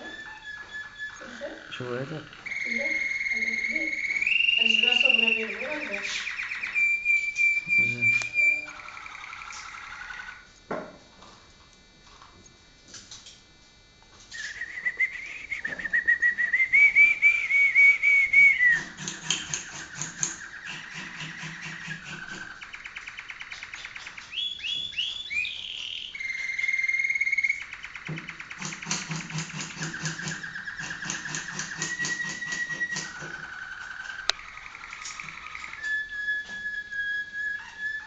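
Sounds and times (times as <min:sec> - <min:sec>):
canary singing: 0:00.0 - 0:10.5, 0:14.3 - 0:38.0.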